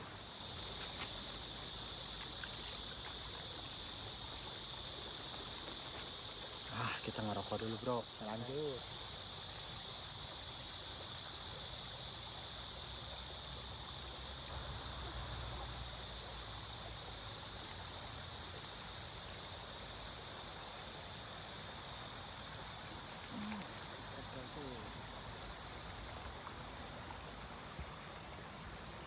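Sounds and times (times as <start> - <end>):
high hiss: 0.0 - 29.0.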